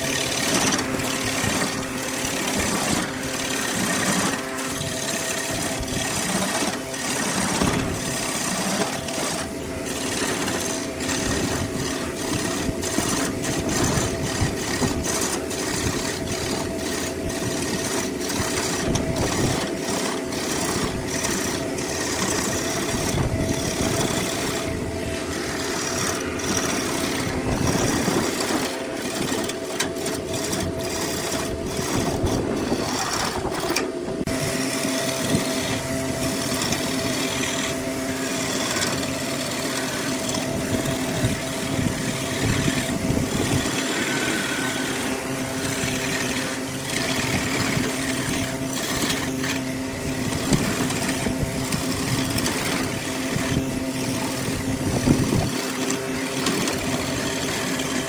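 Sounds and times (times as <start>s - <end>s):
lathe motor hum: 0.0s - 58.0s
turning tool scraping wood: 0.0s - 58.0s.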